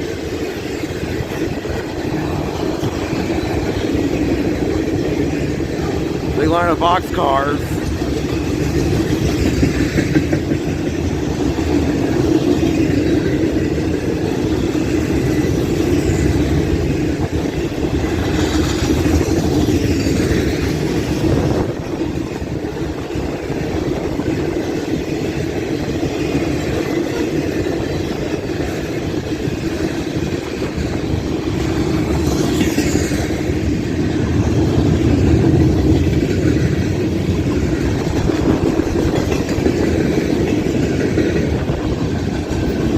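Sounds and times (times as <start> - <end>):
wind buffeting microphone: 0.0 - 6.4, 7.8 - 42.9
train wheels rolling on rails: 0.0 - 42.9.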